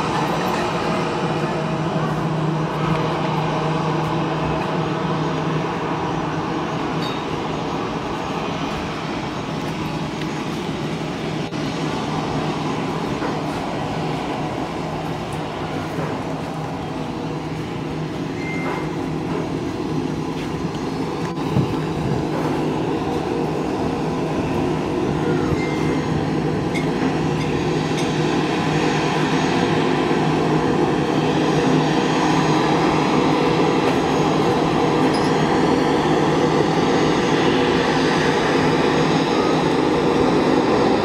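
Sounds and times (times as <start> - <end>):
jet engines running: 0.0 - 41.0.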